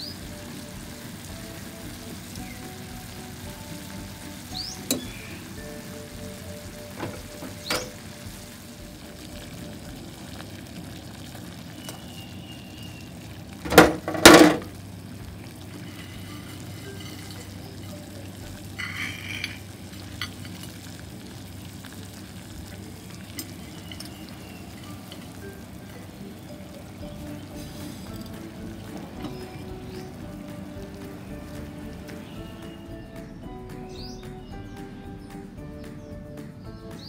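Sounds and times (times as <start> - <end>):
sauce simmering in a pan: 0.0 - 37.0
water boiling in a pot: 0.0 - 37.0.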